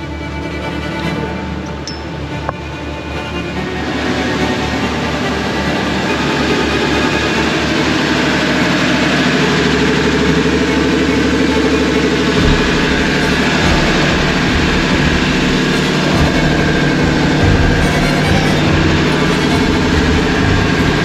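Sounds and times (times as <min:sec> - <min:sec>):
boat engine rumbling: 0:01.3 - 0:21.0.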